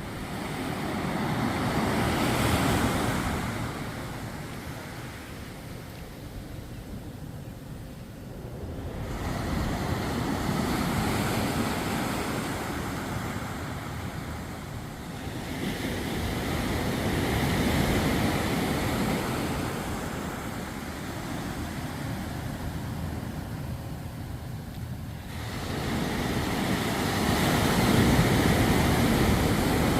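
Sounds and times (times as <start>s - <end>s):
ocean waves breaking on sand: 0.0s - 6.5s, 8.2s - 29.9s
wind on microphone: 0.0s - 29.9s.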